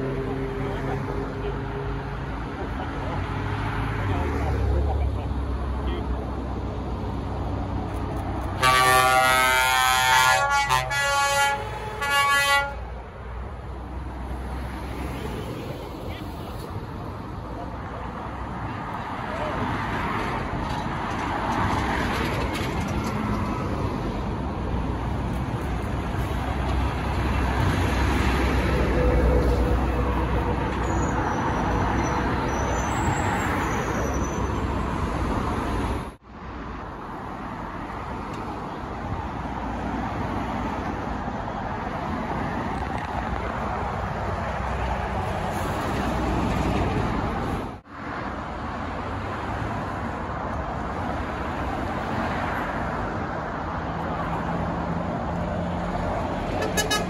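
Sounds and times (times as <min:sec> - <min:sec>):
road traffic driving past: 0:00.0 - 0:57.0.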